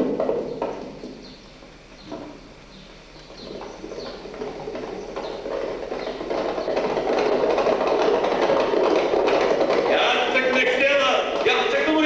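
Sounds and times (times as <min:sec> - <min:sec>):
horses galloping on dirt: 0:00.0 - 0:12.0.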